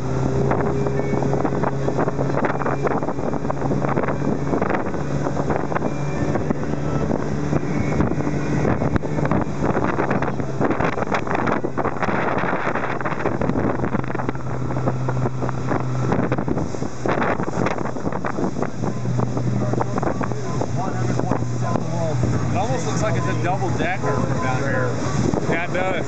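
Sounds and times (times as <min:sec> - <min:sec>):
boat engine droning: 0:00.0 - 0:26.0
water rushing along hull: 0:00.0 - 0:26.0
wind buffeting microphone: 0:00.0 - 0:26.0.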